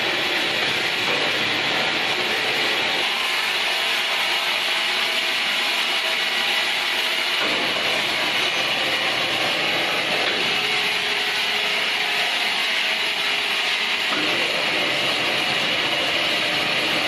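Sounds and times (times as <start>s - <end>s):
machinery noise with hiss: 0.0s - 17.0s.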